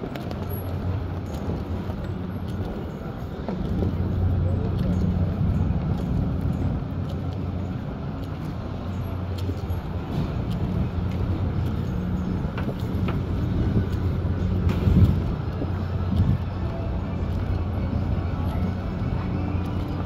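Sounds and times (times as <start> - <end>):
low motor hum: 0.0 - 20.0
wind on microphone: 0.0 - 20.0.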